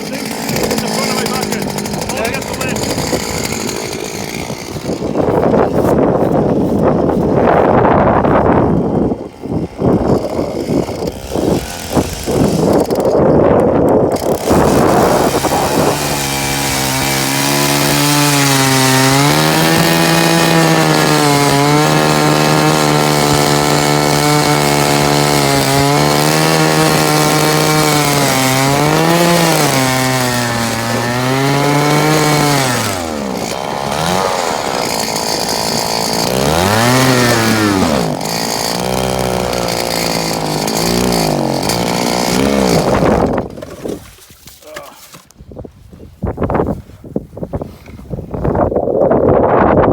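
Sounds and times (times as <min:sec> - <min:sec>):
small engine running at high speed: 0:00.0 - 0:43.8.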